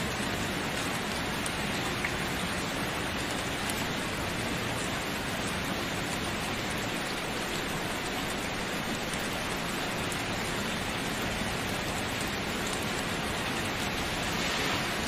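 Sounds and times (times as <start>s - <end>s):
rain pattering on a surface: 0.0s - 15.0s.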